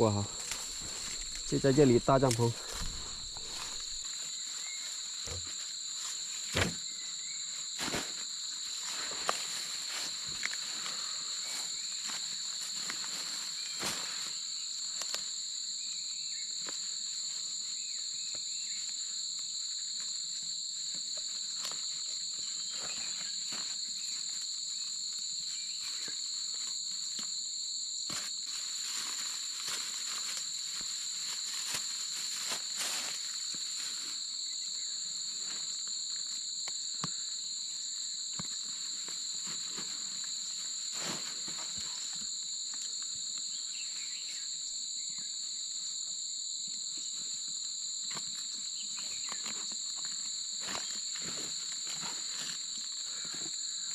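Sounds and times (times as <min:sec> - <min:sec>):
shrill insect chorus: 0:00.0 - 0:53.9.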